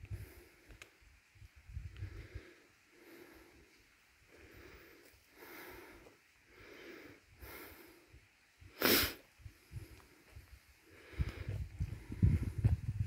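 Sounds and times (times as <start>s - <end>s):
person breathing heavily: 1.7s - 12.9s.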